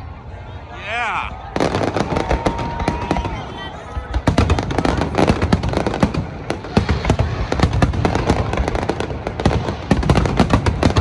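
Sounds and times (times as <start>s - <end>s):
aerial fireworks bursting: 1.5s - 11.0s.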